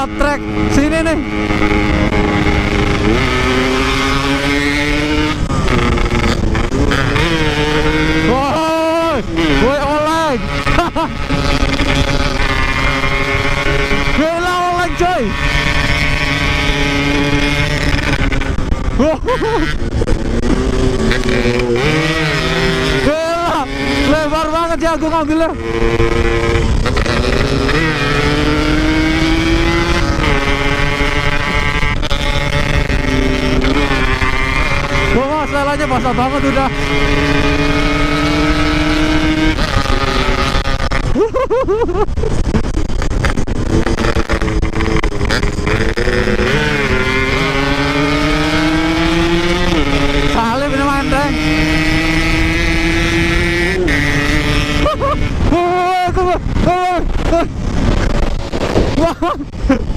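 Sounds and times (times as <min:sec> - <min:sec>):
heavy wind noise: 0:00.0 - 0:59.9
two-stroke motorcycle engine: 0:00.0 - 0:59.9.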